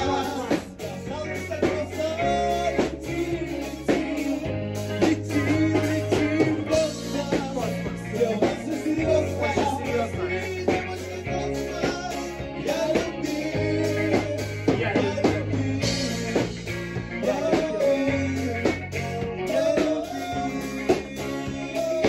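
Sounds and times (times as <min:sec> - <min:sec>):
person singing: 0:00.0 - 0:22.0
rock band playing: 0:00.0 - 0:22.0.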